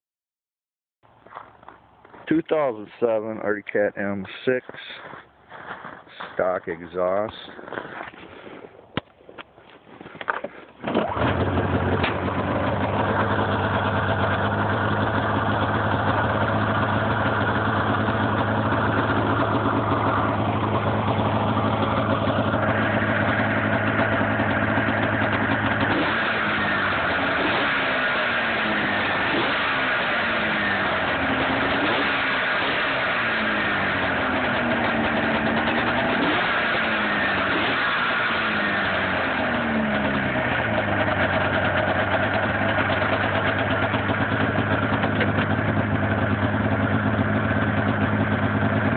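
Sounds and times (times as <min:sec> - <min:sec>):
snowmobile engine idling: 0:02.1 - 0:08.7, 0:10.1 - 0:48.9.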